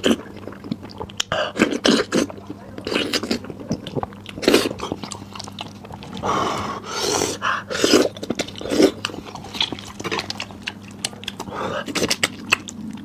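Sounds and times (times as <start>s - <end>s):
wet chewing and smacking: 0.0s - 13.0s.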